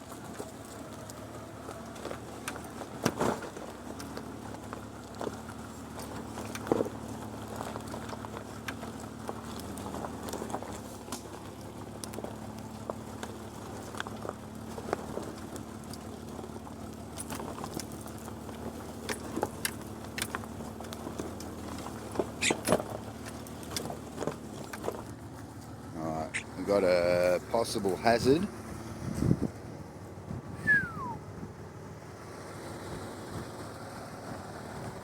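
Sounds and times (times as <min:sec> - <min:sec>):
engine running at low revs: 0:00.0 - 0:35.0.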